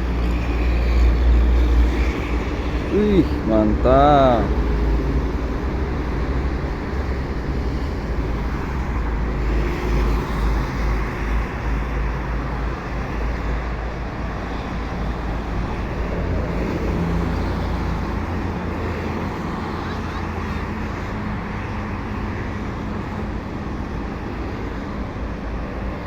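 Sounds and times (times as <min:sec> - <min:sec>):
faint engine hum: 0:00.0 - 0:26.0
road traffic rumble: 0:00.0 - 0:26.0.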